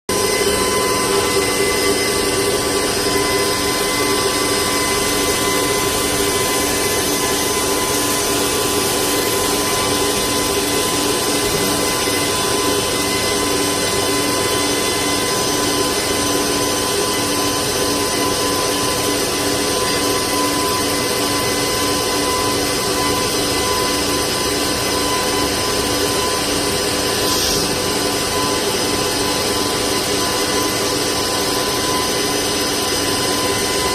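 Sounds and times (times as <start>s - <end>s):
machine humming and whining: 0.1s - 33.9s.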